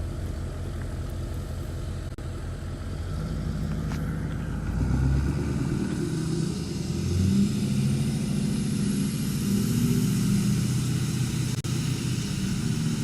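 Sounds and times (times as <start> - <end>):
road noise: 0.0 - 13.0
truck engine hum: 0.0 - 13.0.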